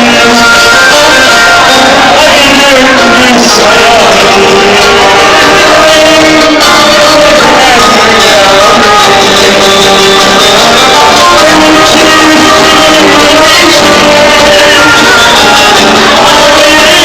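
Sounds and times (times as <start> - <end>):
live music with singing: 0.0 - 17.0.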